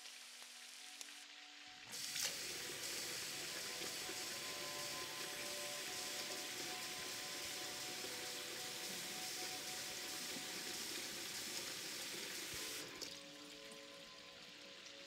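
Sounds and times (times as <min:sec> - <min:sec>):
food sizzling in a pan: 0:00.0 - 0:15.0
faint steady tones: 0:00.1 - 0:15.0.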